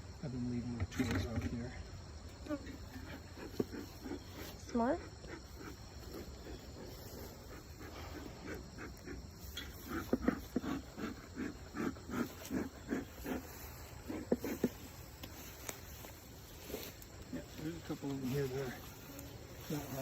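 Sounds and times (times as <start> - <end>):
rhythmic panting: 2.8 - 20.0.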